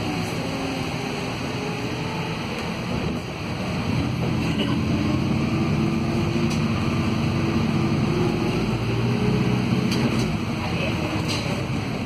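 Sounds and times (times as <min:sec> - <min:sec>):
bus electric motor accelerating: 0:00.0 - 0:10.6.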